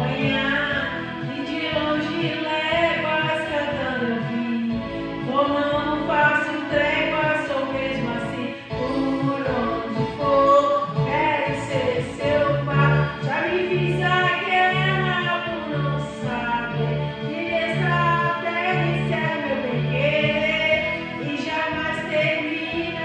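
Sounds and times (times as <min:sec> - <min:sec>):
karaoke backing track: 0:00.0 - 0:23.0
woman singing into microphone: 0:00.0 - 0:23.0.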